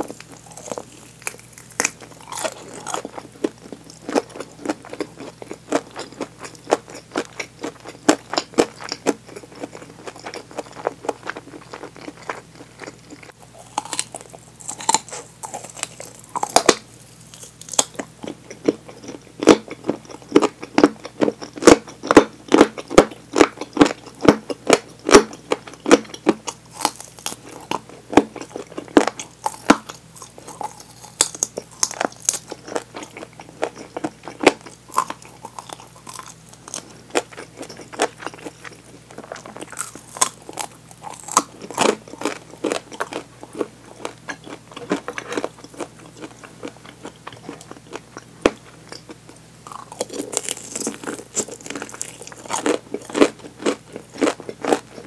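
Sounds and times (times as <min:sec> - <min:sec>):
crunching fried chicken: 0:00.0 - 0:55.0.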